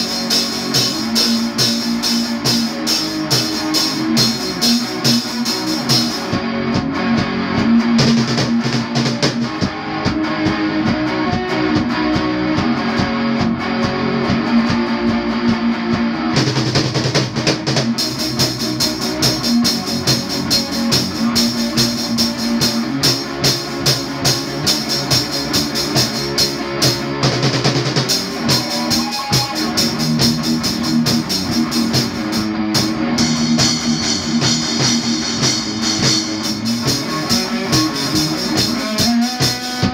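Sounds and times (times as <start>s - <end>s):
drum kit steady beat: 0.0s - 39.9s
electric guitar chords: 0.0s - 39.9s.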